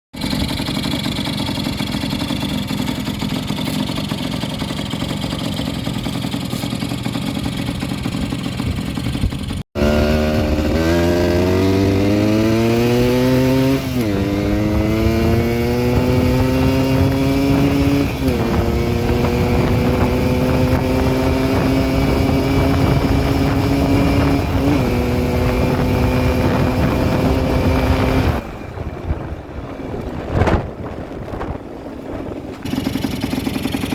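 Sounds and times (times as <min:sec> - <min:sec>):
motorcycle engine revving through gears: 0:00.2 - 0:33.9.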